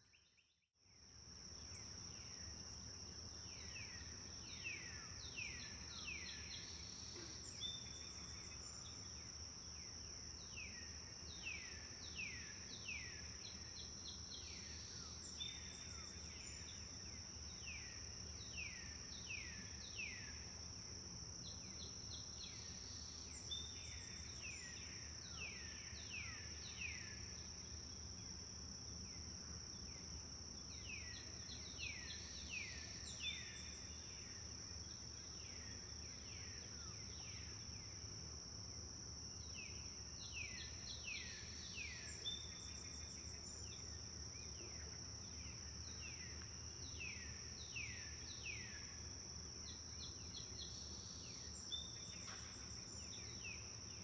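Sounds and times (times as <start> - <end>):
high insect drone: 1.1 - 54.0.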